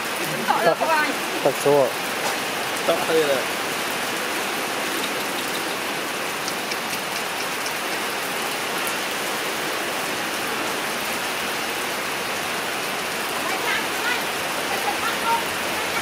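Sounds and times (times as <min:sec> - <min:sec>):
rain-like hiss: 0:00.0 - 0:16.0.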